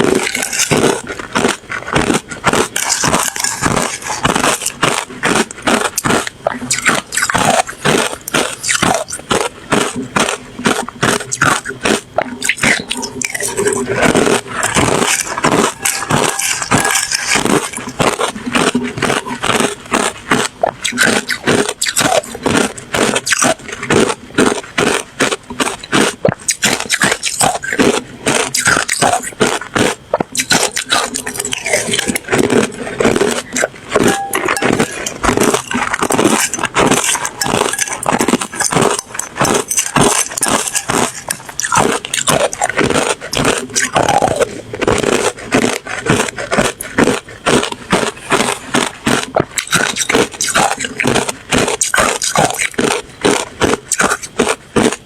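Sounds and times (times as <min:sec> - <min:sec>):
ice crunching between teeth: 0:00.0 - 0:55.0.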